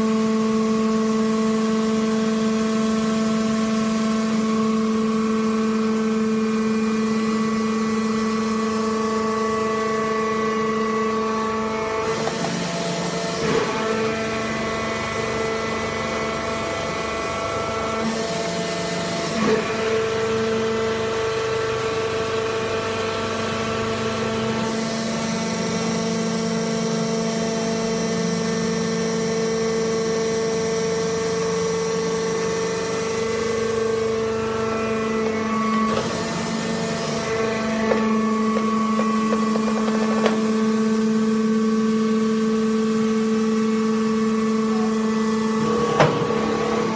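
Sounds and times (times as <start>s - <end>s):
hydraulic press motor humming: 0.0s - 46.9s.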